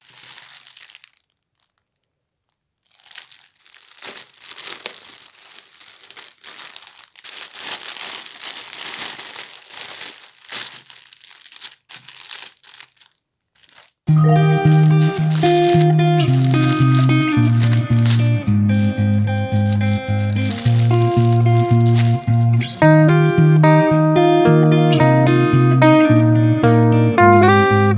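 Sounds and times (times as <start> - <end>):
packaging crinkling and rustling: 0.0 - 22.7.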